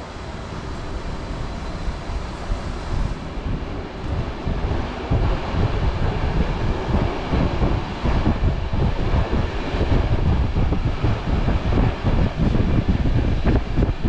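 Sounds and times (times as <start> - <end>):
train rumbling along track: 0.0 - 14.0
wind buffeting microphone: 0.1 - 14.0.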